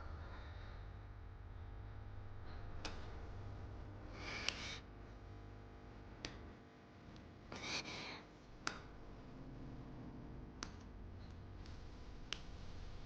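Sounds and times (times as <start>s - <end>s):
low hum: 0.0s - 7.6s, 8.4s - 13.0s.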